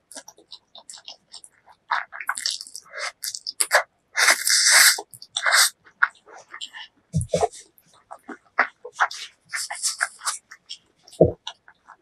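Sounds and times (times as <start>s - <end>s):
mouth clicks and lip smacks: 0.0s - 12.0s.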